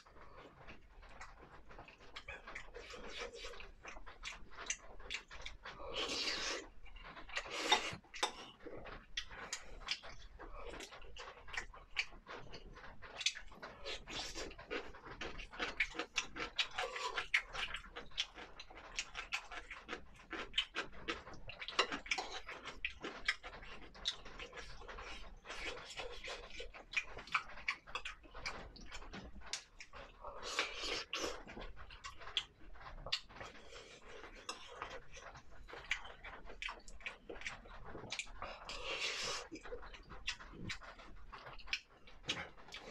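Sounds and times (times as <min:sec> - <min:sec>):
person chewing and smacking: 0:00.0 - 0:42.9.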